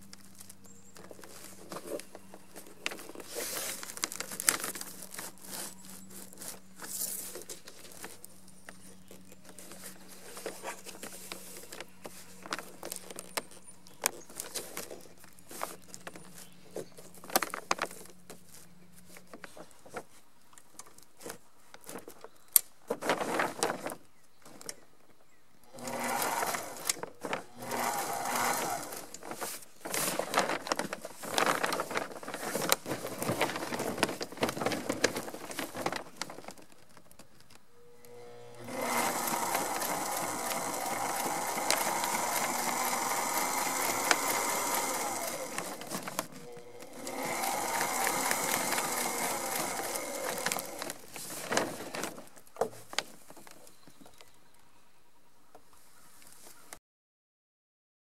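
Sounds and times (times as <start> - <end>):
plastic sail cloth crinkling: 0.0 - 25.0, 25.6 - 54.4.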